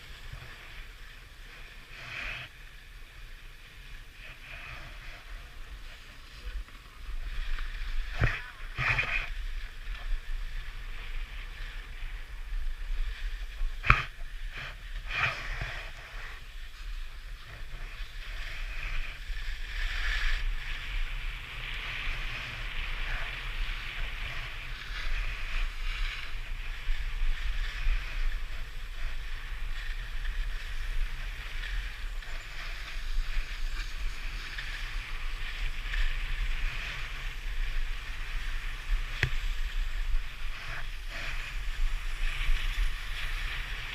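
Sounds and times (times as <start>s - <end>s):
skis scraping over snow: 0.0s - 43.9s
wind rumbling on microphone: 0.0s - 43.9s.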